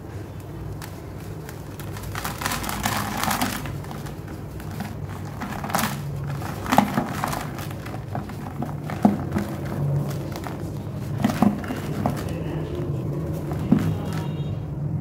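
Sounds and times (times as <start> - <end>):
block crumbling by hand: 0.8 - 14.3.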